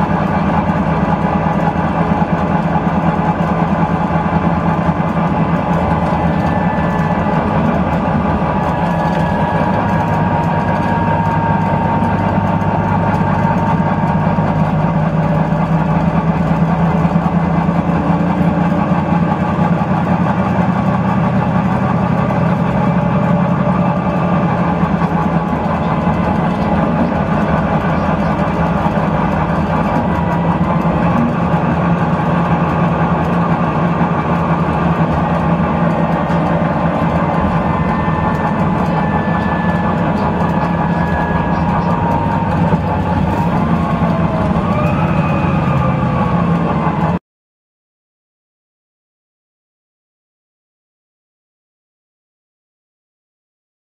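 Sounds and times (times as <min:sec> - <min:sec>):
bus diesel engine running: 0:00.0 - 0:47.2.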